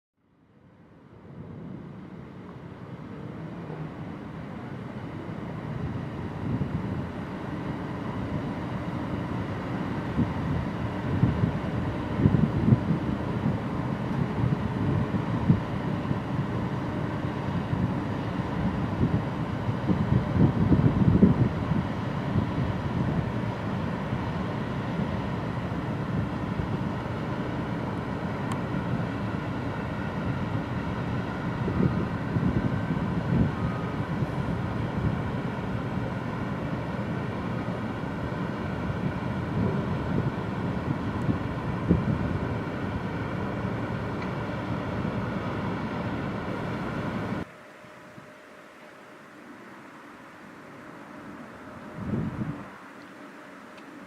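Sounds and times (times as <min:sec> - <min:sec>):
boat engine low rumble: 0:00.2 - 0:54.0
faint hum: 0:00.2 - 0:54.0.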